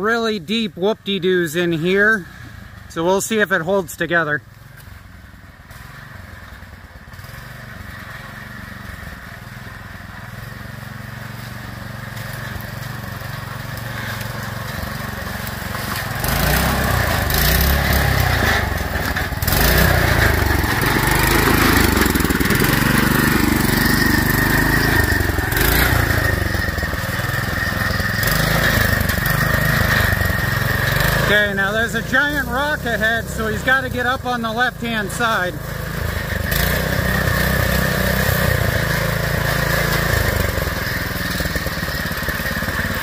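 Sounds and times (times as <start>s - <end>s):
go-kart engine revving: 0.0s - 43.0s.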